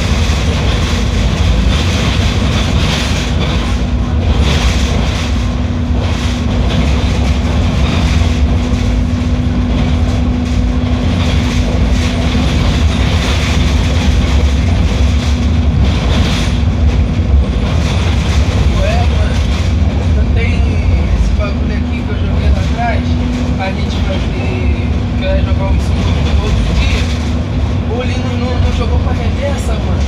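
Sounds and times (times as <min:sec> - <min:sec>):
held hum: 0:00.0 - 0:29.5
bus engine drone and rumble: 0:00.0 - 0:30.0
rattling: 0:00.0 - 0:30.0.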